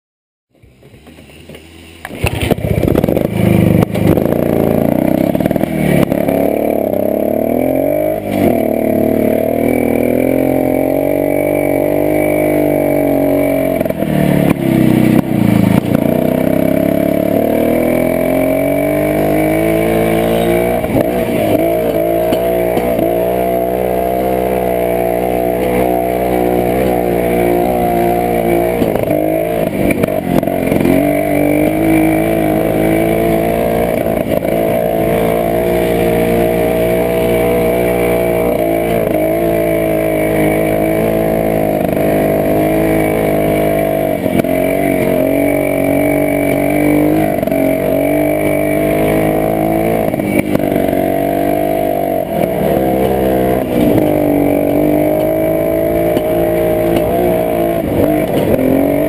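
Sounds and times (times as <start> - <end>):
motorcycle engine revving: 0.5 - 59.0.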